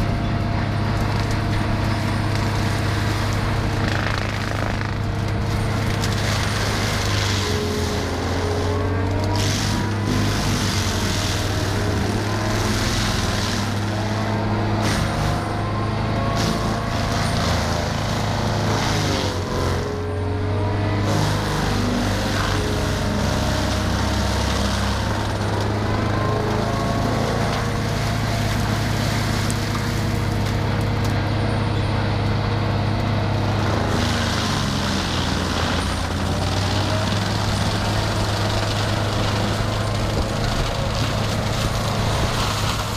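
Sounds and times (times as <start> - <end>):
heavy machine engine under load: 0.0 - 42.9.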